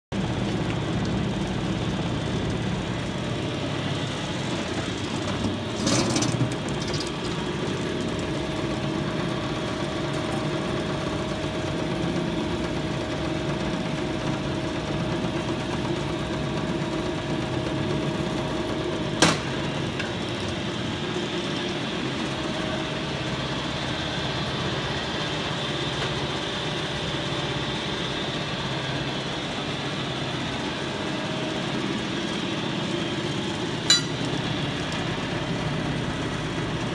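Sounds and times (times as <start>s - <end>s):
machine mechanical drone: 0.2s - 36.9s.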